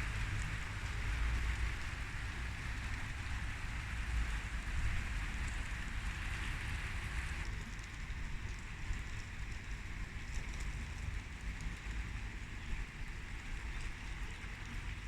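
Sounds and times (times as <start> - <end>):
rain falling: 0.0 - 12.5.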